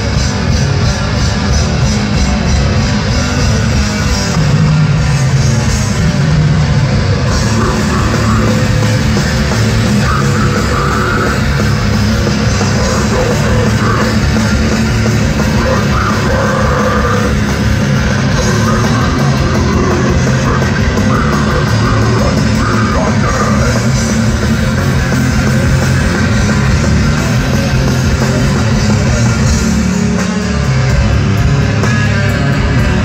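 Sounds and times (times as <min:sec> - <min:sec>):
bass guitar: 0:00.0 - 0:33.0
distorted electric guitars: 0:00.0 - 0:33.0
drum kit pounding: 0:00.0 - 0:33.0.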